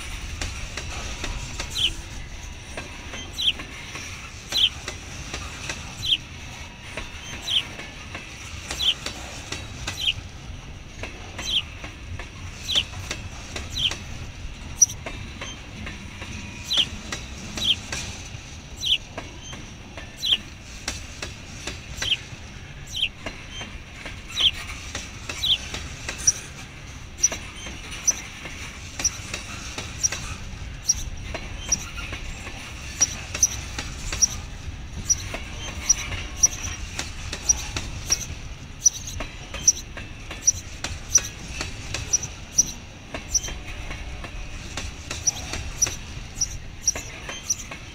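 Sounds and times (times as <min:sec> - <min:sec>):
freight train rumble: 0:00.0 - 0:47.9
wheels clicking over rail joints: 0:00.0 - 0:47.9.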